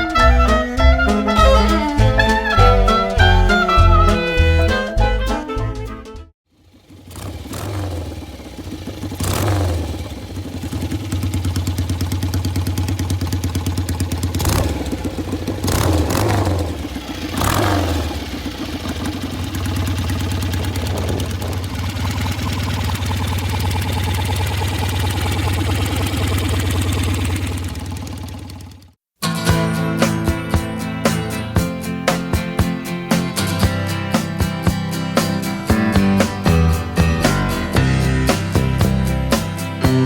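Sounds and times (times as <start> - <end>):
motorcycle engine revving and idling: 6.4 - 29.1, 30.1 - 40.0.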